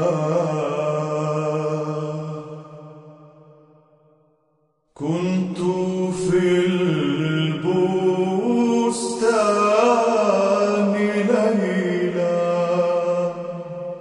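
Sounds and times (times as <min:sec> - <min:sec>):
chanted vocal music: 0:00.0 - 0:14.0.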